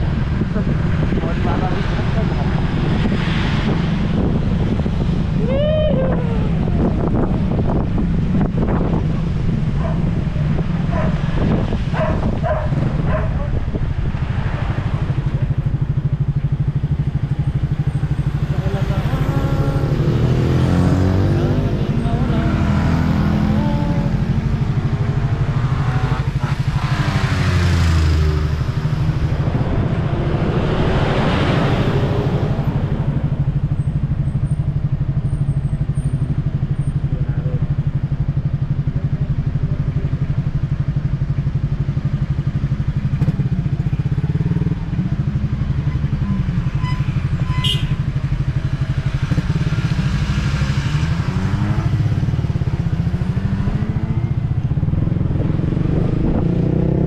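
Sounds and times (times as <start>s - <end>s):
motorcycle engine running: 0.0s - 31.3s, 32.0s - 57.0s.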